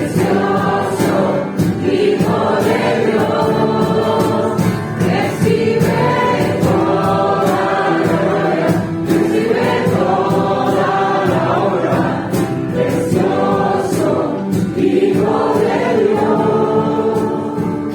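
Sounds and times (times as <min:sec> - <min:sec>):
band playing with steady beat: 0:00.0 - 0:17.9
group singing a worship song: 0:00.0 - 0:17.9.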